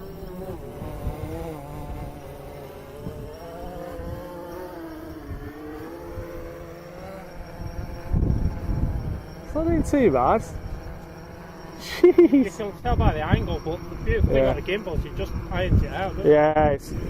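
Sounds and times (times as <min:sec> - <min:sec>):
wind rumbling on microphone: 0:00.0 - 0:11.6, 0:12.5 - 0:17.0
drone propellers buzzing: 0:00.0 - 0:17.0.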